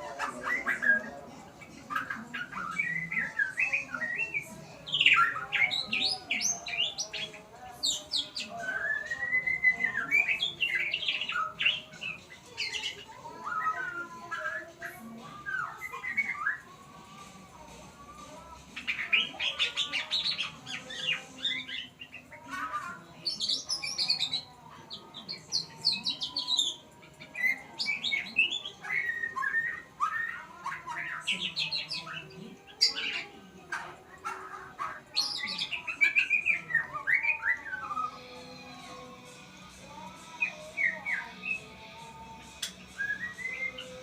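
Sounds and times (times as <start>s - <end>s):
songbird singing: 0.0s - 44.0s.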